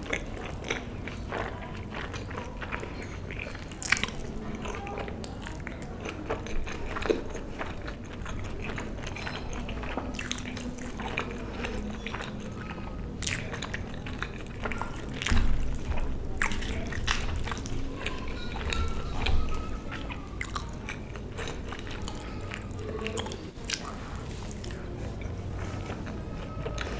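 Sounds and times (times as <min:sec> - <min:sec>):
wet chewing: 0:00.0 - 0:26.9.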